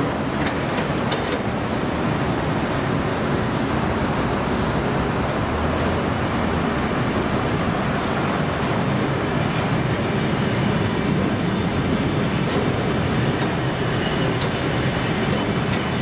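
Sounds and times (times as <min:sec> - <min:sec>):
train coaches rolling past: 0:00.0 - 0:16.0.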